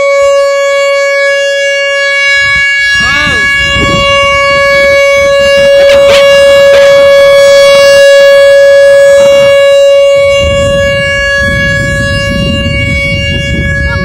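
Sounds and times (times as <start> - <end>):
rotating warning siren: 0.0 - 14.0.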